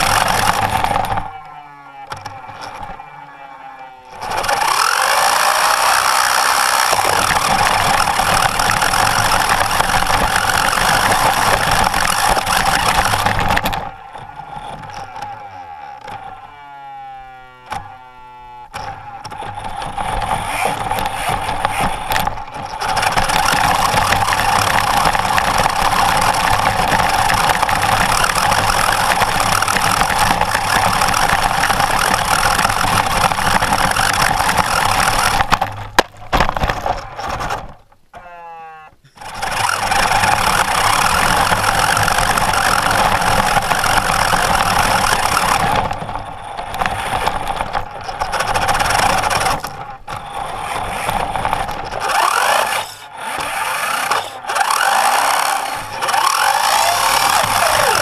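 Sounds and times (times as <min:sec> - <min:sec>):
plastic body rattling: 0:00.0 - 0:03.3, 0:04.1 - 0:16.6, 0:17.5 - 0:38.2, 0:39.0 - 0:58.0
toy car motor whirring: 0:00.0 - 0:35.8, 0:39.0 - 0:58.0.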